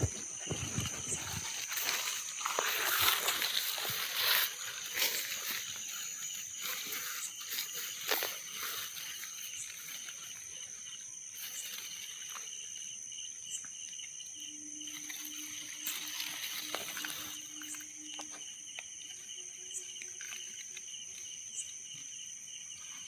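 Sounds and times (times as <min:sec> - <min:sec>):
faint pulsing insect call: 0:00.0 - 0:23.0
insect high-pitched trill: 0:00.0 - 0:23.0
low pulsing insect call: 0:00.0 - 0:23.0.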